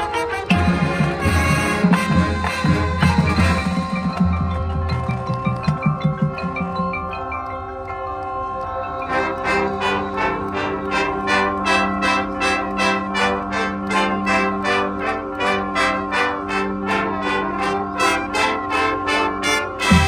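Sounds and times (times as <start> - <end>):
brass band playing chords: 0.0 - 20.0.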